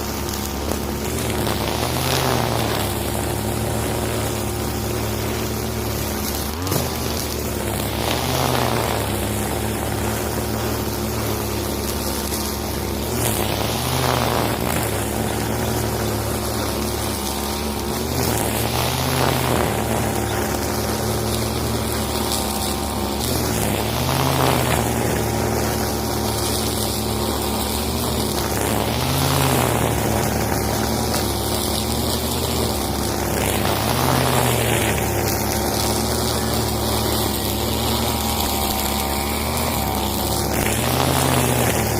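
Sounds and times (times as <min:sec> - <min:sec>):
brush cutter running: 0:00.0 - 0:41.9.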